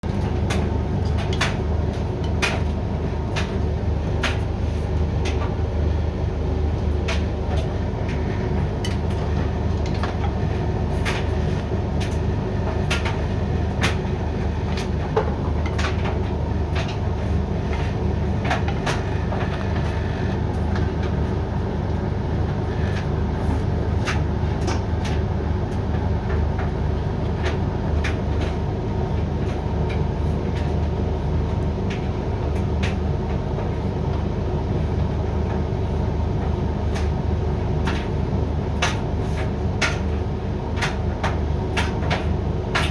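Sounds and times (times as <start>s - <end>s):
tumble dryer drum humming: 0.0s - 42.9s.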